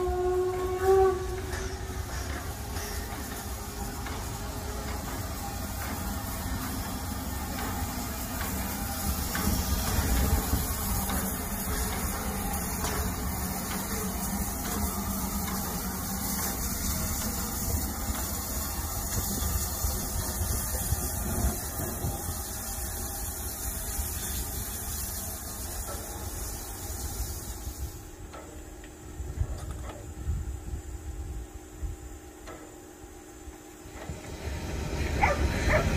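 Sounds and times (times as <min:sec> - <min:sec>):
steam hissing: 0:00.0 - 0:29.4, 0:33.6 - 0:35.9
train wheels rumbling on rails: 0:00.0 - 0:35.9.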